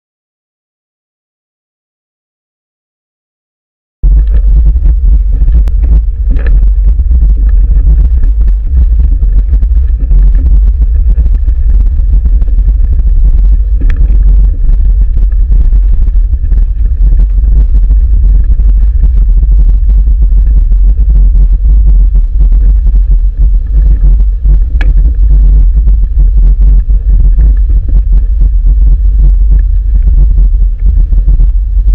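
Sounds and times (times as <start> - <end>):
wind buffeting microphone: 4.0 - 31.9.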